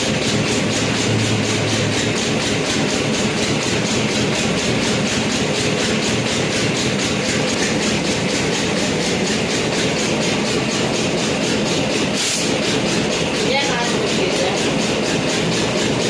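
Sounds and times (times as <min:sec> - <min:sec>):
machinery clattering: 0:00.0 - 0:16.0.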